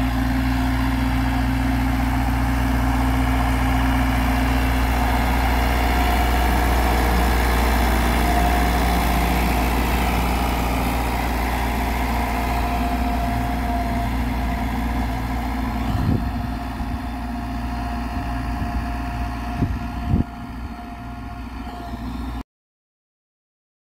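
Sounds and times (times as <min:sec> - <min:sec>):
tractor diesel engine running: 0:00.0 - 0:22.4.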